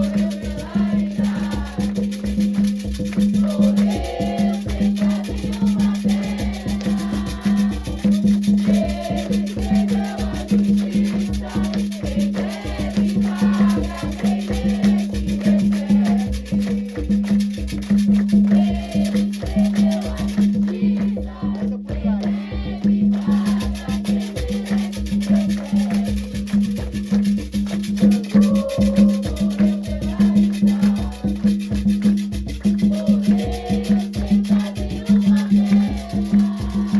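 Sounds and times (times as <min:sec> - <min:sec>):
voices singing a chant: 0:00.0 - 0:17.4, 0:18.0 - 0:27.3, 0:27.9 - 0:36.9
rattles shaking: 0:00.0 - 0:20.8, 0:23.2 - 0:36.9
drums playing fast beat: 0:00.0 - 0:36.9.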